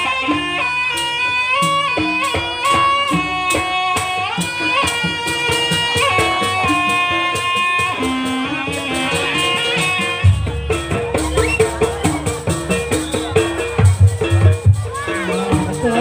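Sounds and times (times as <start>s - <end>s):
quick drum strokes: 1.6s - 16.0s.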